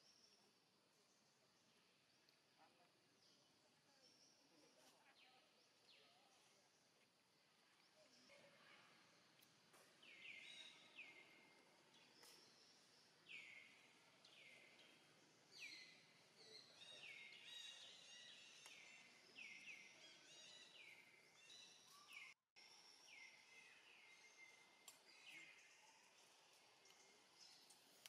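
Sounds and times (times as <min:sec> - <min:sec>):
quiet outdoor hiss: 0:00.0 - 0:28.0.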